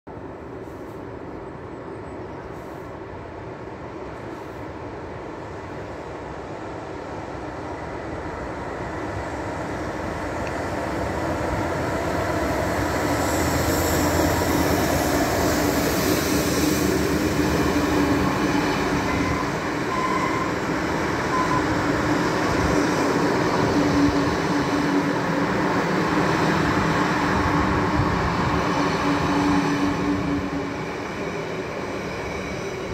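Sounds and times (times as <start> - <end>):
diesel locomotive engine passing: 2.5 - 32.9.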